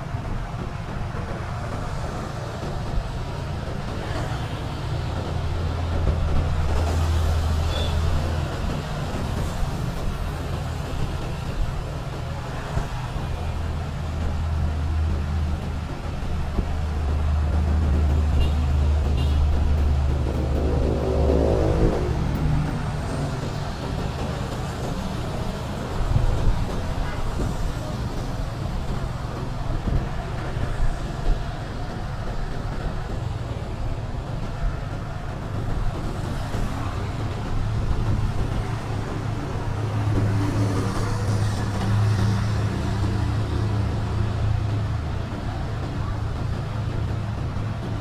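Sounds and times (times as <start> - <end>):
road and wind noise: 0.0 - 48.0.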